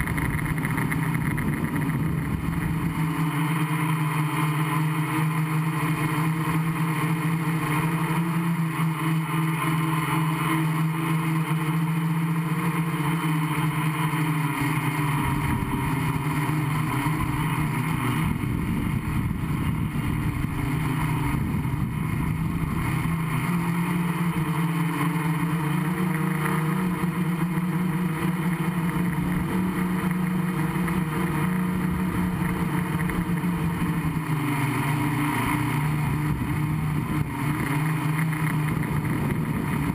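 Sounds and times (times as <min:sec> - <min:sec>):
quadcopter propellers humming: 0:00.0 - 0:39.9.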